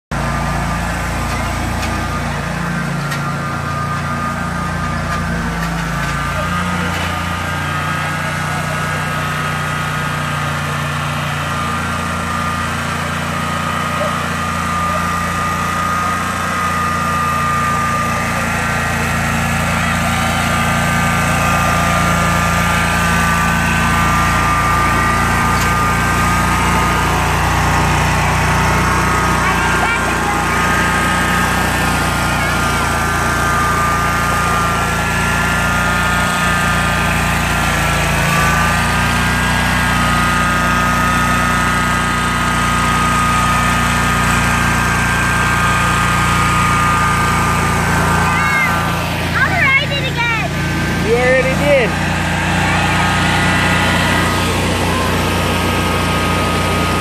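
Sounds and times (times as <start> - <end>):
mower engine running: 0.1 - 57.0.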